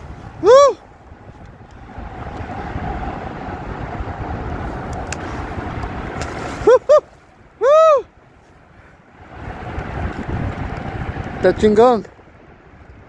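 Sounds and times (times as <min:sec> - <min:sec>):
wind and water noise: 0:00.0 - 0:13.0.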